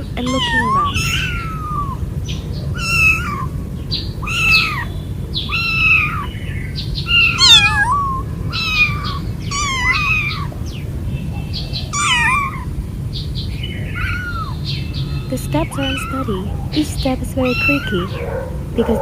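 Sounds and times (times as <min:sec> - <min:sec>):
kittens meowing: 0:00.0 - 0:12.8, 0:13.7 - 0:19.0.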